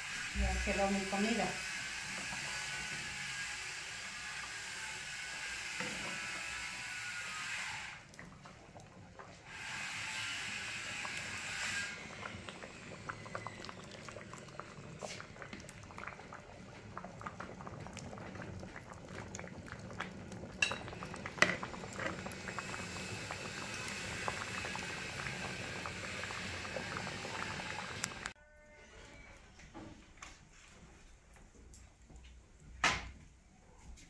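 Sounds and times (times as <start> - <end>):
soup bubbling at a boil: 0.0 - 28.4.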